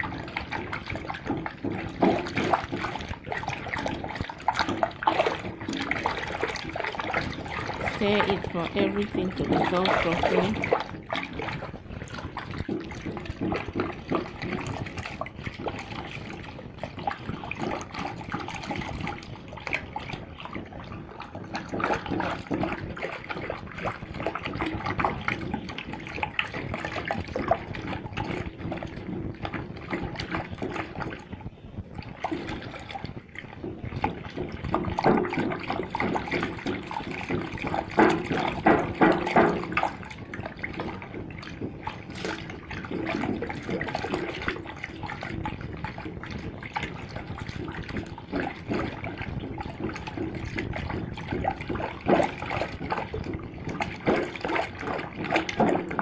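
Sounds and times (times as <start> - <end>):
water stirred and sloshing: 0.0 - 56.0.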